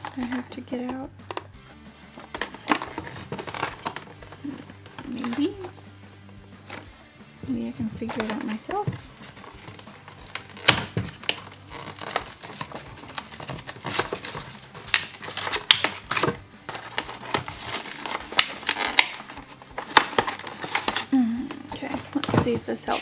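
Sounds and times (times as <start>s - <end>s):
plastic and cardboard crinkling: 0.0s - 5.9s, 6.6s - 23.0s.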